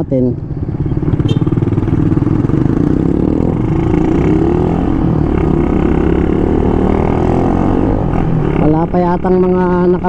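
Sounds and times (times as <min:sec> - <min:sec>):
motorcycle engine accelerating: 0:00.4 - 0:10.0.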